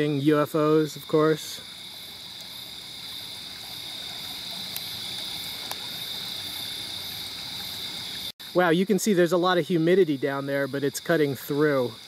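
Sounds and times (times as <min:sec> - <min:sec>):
creek water over rocks: 0:00.0 - 0:12.0
high-pitched insect chorus: 0:00.0 - 0:12.0.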